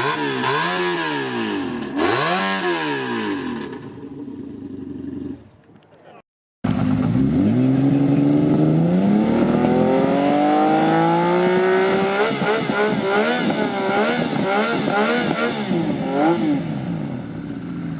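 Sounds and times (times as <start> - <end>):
motorcycle engine revving: 0.0 - 5.6, 6.6 - 17.9.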